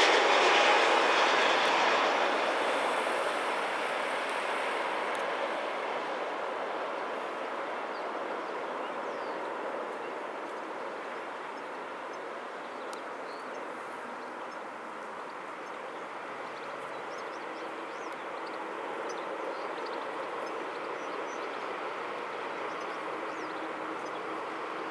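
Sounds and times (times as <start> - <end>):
jet engines rushing: 0.0 - 24.9.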